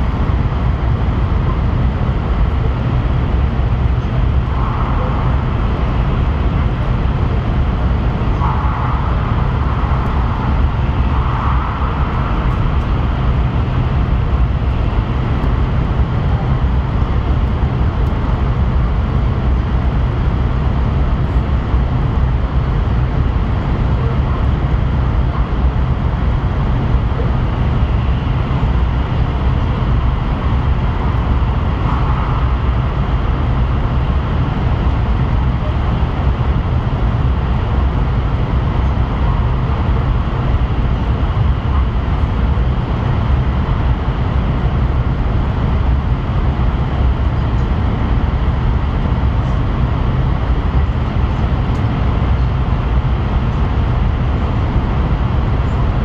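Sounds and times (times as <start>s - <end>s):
train rumble in tunnel: 0.0s - 56.0s.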